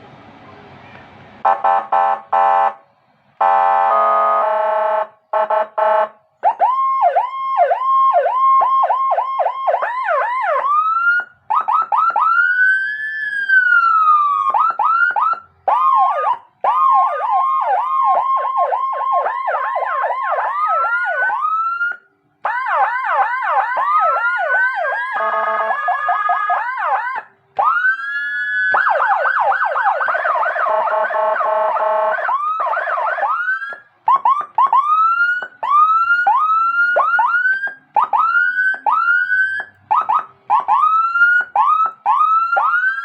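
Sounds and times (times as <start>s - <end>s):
electronic siren cycling tones: 5.3s - 43.0s.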